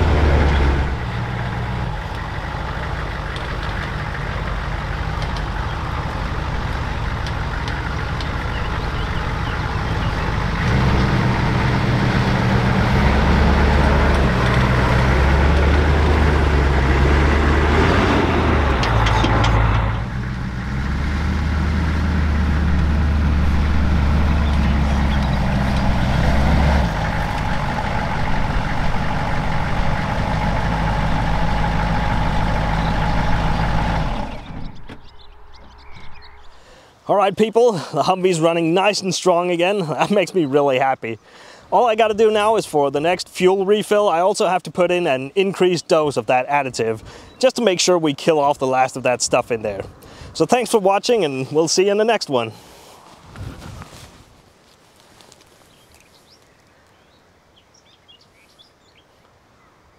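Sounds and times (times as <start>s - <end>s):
diesel engine under load: 0.0s - 37.0s, 37.6s - 54.2s.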